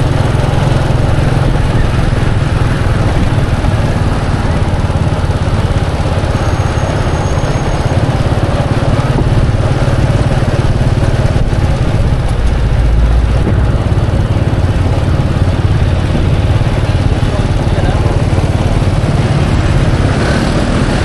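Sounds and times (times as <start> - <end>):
motorbike engines: 0.0 - 21.0
street traffic rumble: 0.0 - 21.0.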